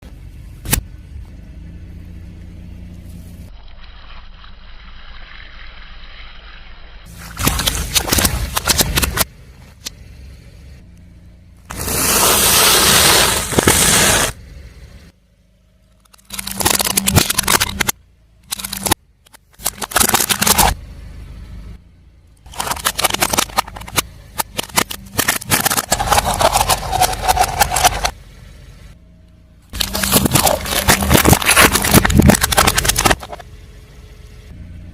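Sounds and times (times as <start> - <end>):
car engine running: 0.0 - 3.5, 7.0 - 34.9.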